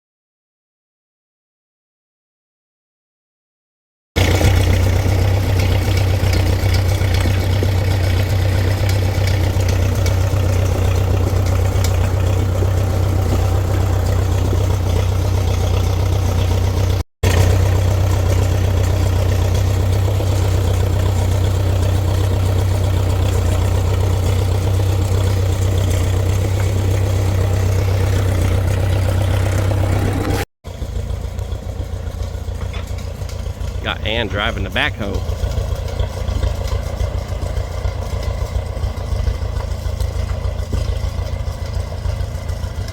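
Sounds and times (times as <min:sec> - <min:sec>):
backhoe engine running: 0:04.2 - 0:42.9.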